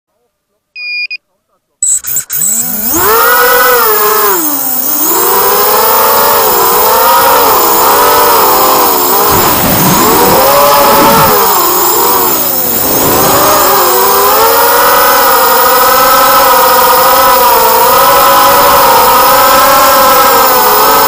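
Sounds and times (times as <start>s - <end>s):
drone motors whining: 1.8s - 21.0s.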